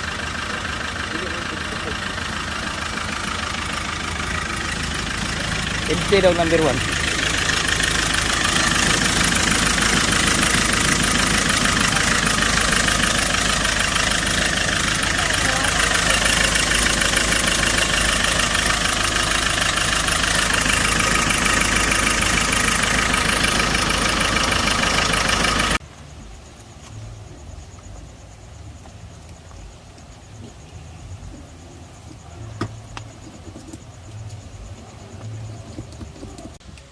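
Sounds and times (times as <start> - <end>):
diesel engine idling with knock: 0.0 - 25.9, 28.8 - 36.7.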